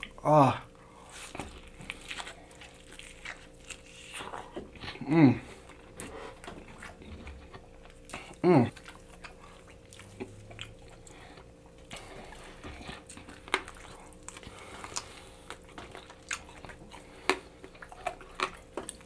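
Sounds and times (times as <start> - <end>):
faint steady hum: 0.0 - 19.0
mouth chewing wet smacks: 1.0 - 19.0.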